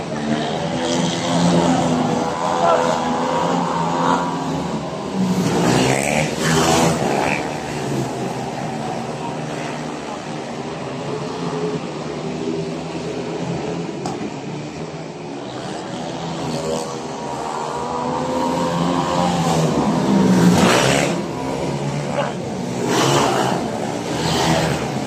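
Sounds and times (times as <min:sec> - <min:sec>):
motorcycle engines racing: 0:00.0 - 0:25.0.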